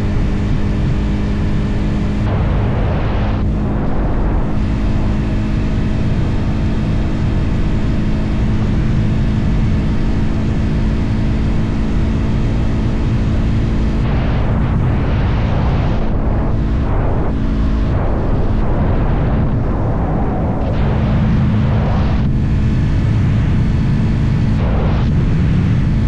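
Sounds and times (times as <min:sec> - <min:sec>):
motorcycle engine droning: 0:00.0 - 0:26.0
wind rush on microphone: 0:00.0 - 0:26.0.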